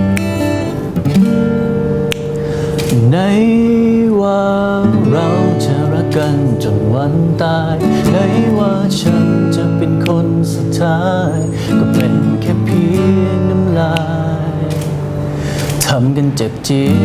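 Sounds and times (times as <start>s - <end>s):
acoustic guitar strummed and picked: 0.0s - 17.0s
man singing: 2.8s - 17.0s.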